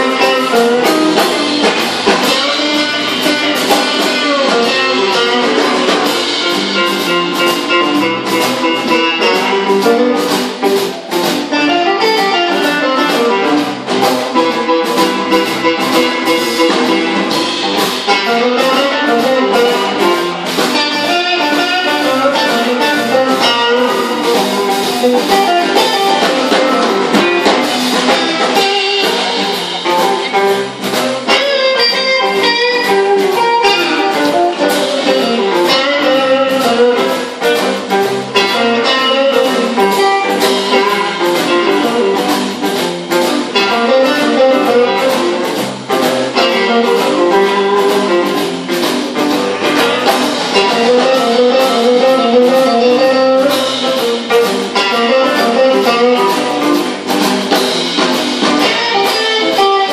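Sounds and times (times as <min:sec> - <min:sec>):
bass: 0:00.0 - 0:59.9
electric guitar lines: 0:00.0 - 0:59.9
steady drum beat: 0:00.0 - 0:59.9.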